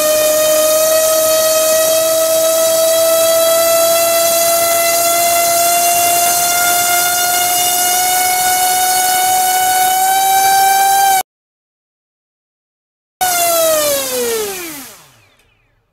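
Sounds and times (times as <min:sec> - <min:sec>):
electric motor whine: 0:00.0 - 0:11.2, 0:13.2 - 0:15.7.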